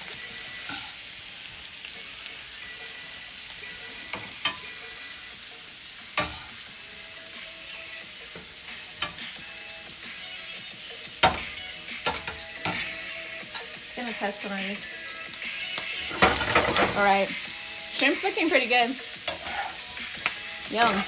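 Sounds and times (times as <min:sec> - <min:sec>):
shrimp sizzling in a frying pan: 0:00.0 - 0:21.0.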